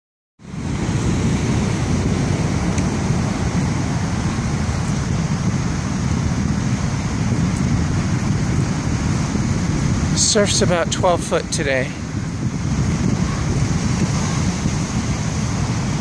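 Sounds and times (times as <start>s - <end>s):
heavy surf breaking: 0.4s - 16.0s
wind buffeting microphone: 0.4s - 16.0s.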